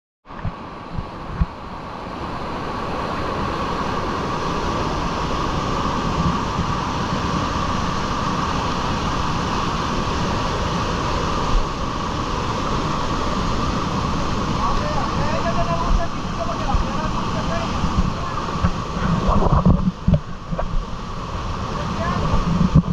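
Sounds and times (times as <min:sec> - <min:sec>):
waterfall rushing over boulders: 0:00.3 - 0:22.9.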